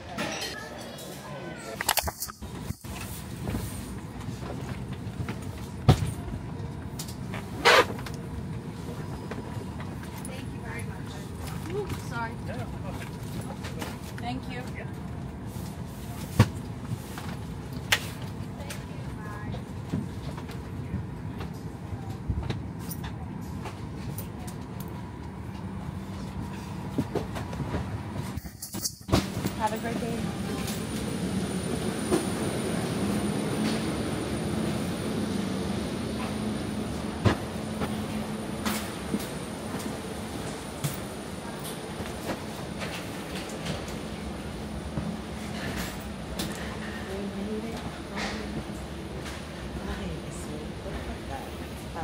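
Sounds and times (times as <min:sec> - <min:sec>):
airliner cabin rumble: 0:01.5 - 0:52.0.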